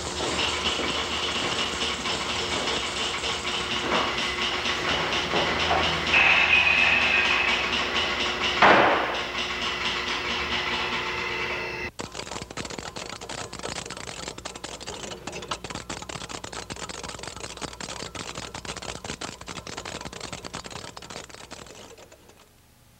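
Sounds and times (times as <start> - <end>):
rapid clicking and rattling: 0.0 - 11.2, 11.9 - 22.5.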